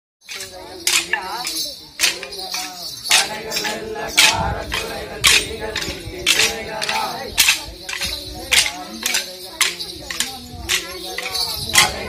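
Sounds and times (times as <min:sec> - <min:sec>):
men's voices: 0:00.2 - 0:12.0
wooden sticks clacking: 0:00.2 - 0:12.0.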